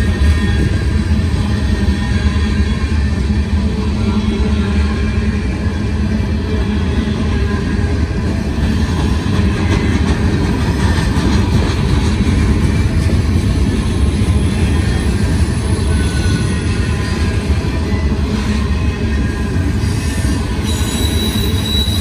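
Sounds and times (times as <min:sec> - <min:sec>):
freight train wheels on rails: 0:00.0 - 0:22.0.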